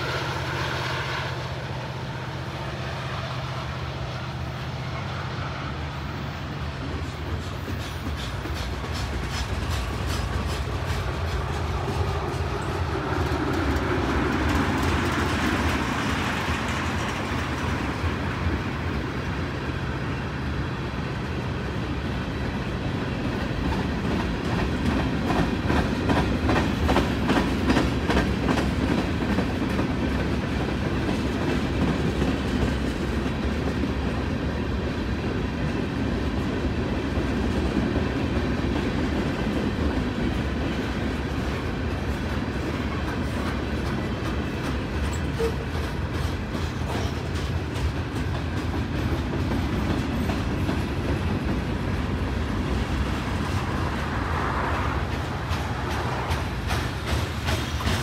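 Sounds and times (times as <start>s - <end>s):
freight train wheels rumbling: 0.0s - 58.0s
wheels clicking over rail joints: 6.8s - 19.1s, 22.4s - 58.0s.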